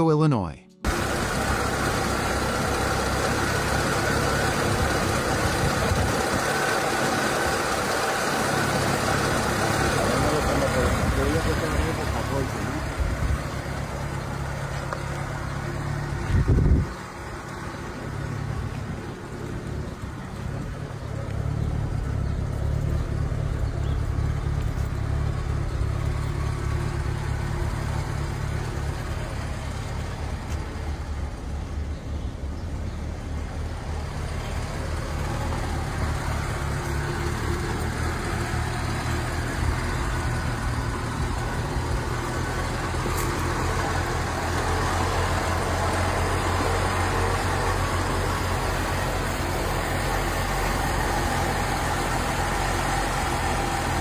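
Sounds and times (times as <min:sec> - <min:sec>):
car engine running: 0:00.8 - 0:54.0.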